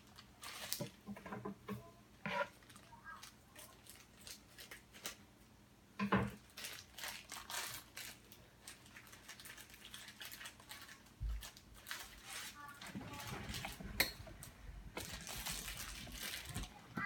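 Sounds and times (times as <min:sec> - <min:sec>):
crinkly packaging rustling and tearing: 0:00.0 - 0:01.1, 0:02.4 - 0:05.4, 0:06.3 - 0:17.0.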